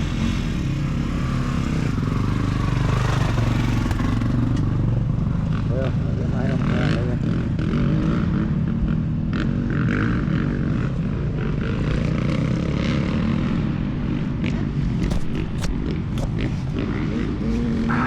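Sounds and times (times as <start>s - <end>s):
dirt bike engines droning: 0.0s - 18.0s.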